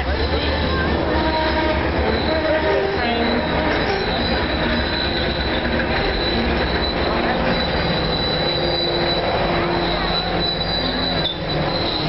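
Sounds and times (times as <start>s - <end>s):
high wheel squeal: 0.0s - 12.0s
train wheels on rails: 0.0s - 12.0s.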